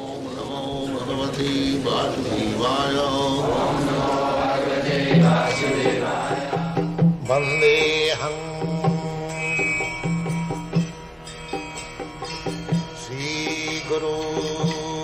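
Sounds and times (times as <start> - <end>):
chanted mantra with instruments: 0.0 - 11.0, 12.5 - 15.0.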